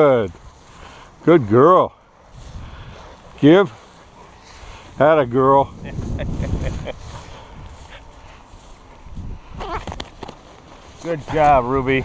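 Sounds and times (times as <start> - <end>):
dog rustling in dry grass: 2.1 - 12.0.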